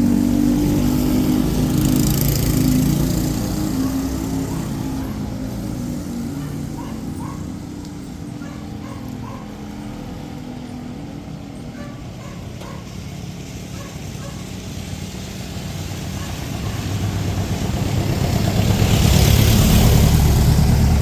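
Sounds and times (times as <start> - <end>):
low street rumble: 0.0 - 21.0
vehicle engine: 0.0 - 21.0.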